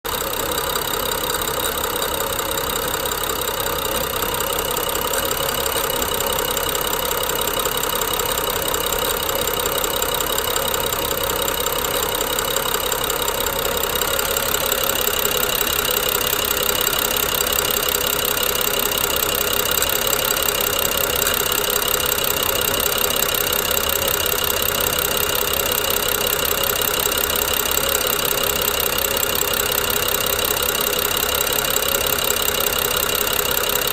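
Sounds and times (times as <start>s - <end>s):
car engine idling roughly: 0.0s - 33.9s
fast clicking and grinding: 0.1s - 33.9s.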